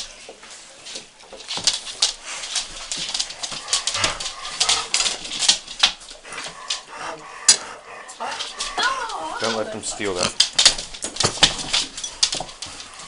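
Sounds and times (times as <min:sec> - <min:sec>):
dogs eating with clicks and scuffles: 0:00.0 - 0:13.0.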